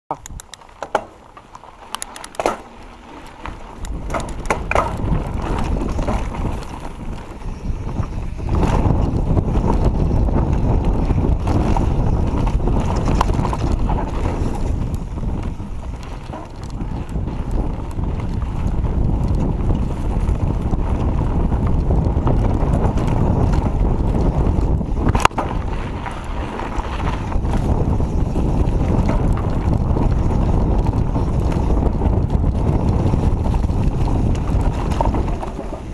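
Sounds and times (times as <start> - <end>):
bike frame rattling: 0.2 - 35.9
bike tyres rumbling on dirt: 0.2 - 35.9
wind buffeting microphone: 2.1 - 35.9.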